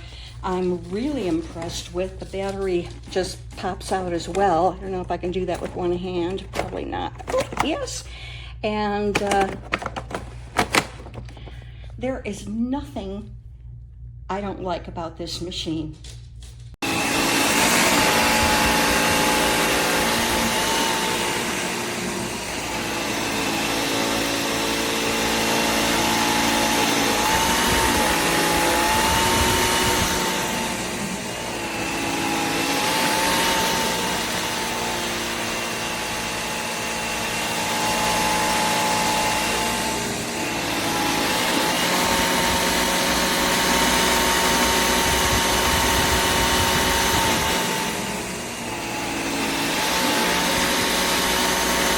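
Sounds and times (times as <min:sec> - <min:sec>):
stick vacuum motor whine: 0:00.0 - 0:07.9, 0:09.0 - 0:11.8, 0:16.8 - 0:51.9.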